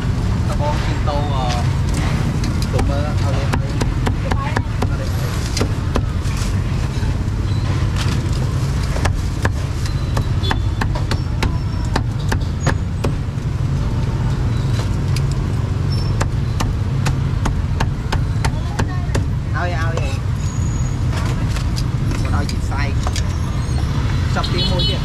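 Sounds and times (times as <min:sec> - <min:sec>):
low rumble of motor traffic: 0:00.0 - 0:25.0.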